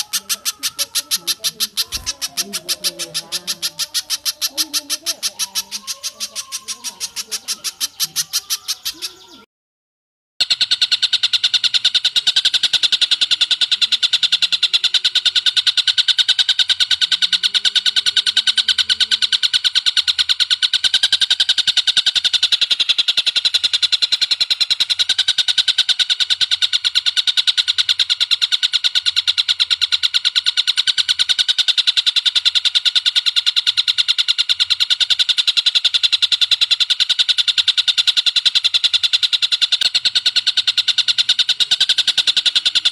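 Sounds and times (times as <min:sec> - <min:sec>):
bird rattling trill: 0:00.0 - 0:09.5, 0:10.4 - 0:42.9.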